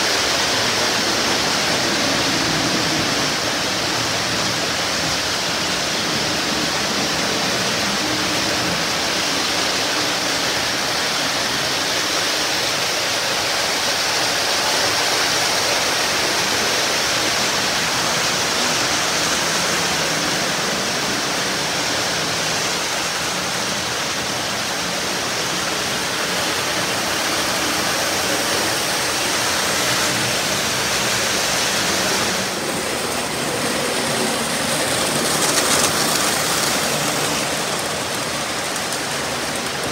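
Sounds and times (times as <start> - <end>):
model trains whirring on track: 0.0 - 39.9.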